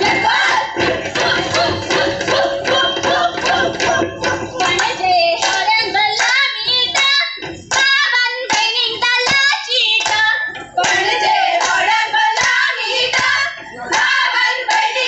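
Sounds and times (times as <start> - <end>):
rhythmic hand claps: 0.0 - 15.0
women singing folk song: 0.0 - 15.0.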